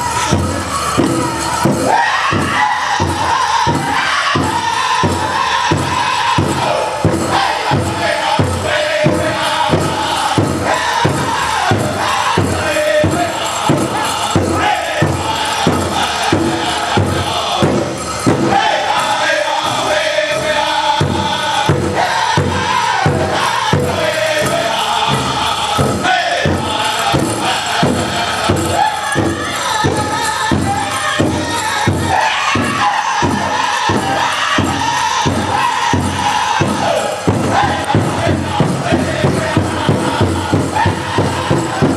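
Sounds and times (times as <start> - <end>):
big drum struck steadily: 0.0 - 41.9
voices chanting high: 0.0 - 41.9.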